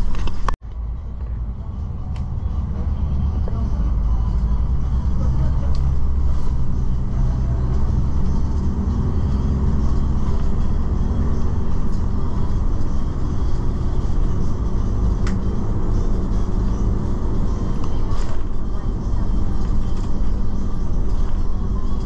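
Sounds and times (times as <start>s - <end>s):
vehicle engine and tyres rumble: 0.0s - 22.0s.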